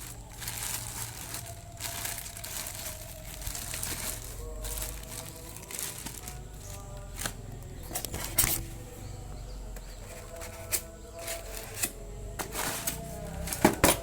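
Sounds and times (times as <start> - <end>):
background music with steady tones: 0.0 - 14.0.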